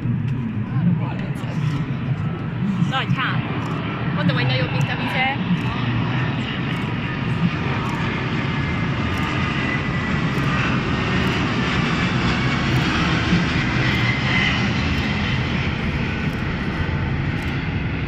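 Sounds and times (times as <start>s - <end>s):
jet airliner flying overhead: 0.0s - 18.0s.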